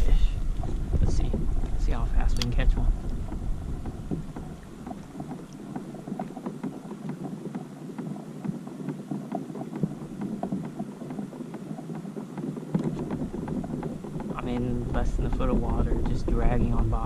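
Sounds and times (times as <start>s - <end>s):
water lapping against kayak hull: 0.0s - 17.0s
small irregular clicks and taps: 0.6s - 17.0s.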